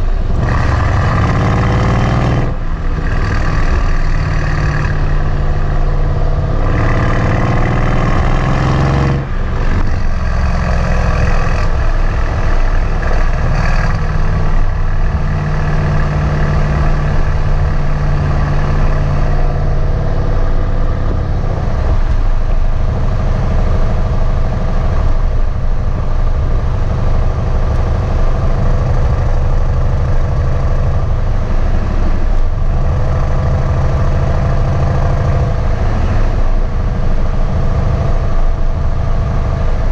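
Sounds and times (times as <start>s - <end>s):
car engine running loud: 0.0s - 39.9s.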